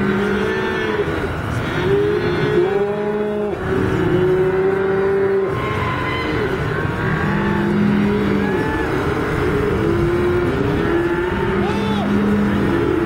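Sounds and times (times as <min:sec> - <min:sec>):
cows and calves bawling: 0:00.0 - 0:13.0.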